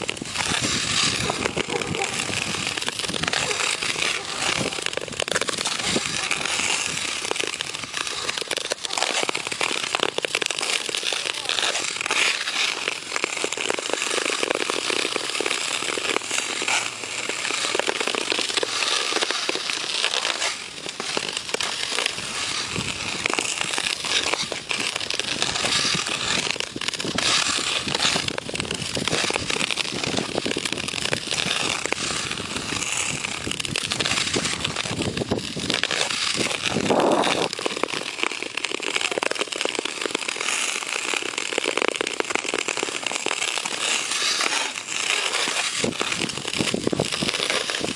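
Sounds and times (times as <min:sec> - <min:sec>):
skate blades scraping ice: 0:00.0 - 0:47.9.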